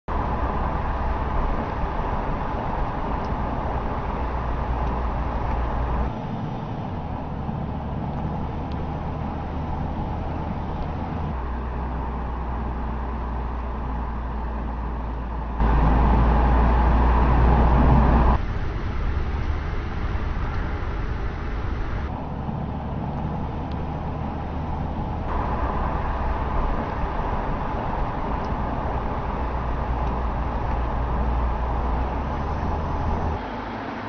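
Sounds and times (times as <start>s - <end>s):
car engine: 0.0s - 34.0s
road noise: 0.0s - 34.0s.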